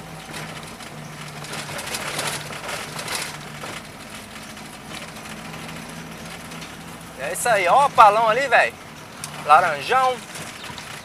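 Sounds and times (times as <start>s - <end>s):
car engine running: 0.0s - 11.0s
rushing road noise: 0.0s - 11.0s.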